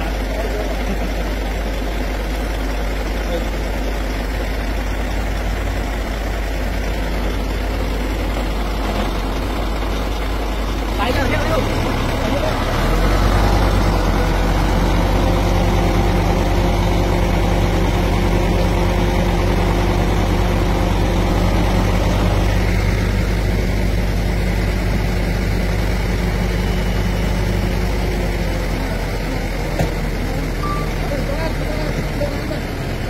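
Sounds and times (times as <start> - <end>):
diesel engine running steadily: 0.0 - 33.0.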